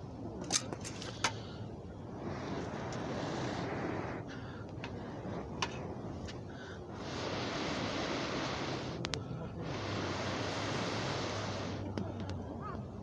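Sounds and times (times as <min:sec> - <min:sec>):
air rushing through blowing pipe: 0:00.0 - 0:13.0.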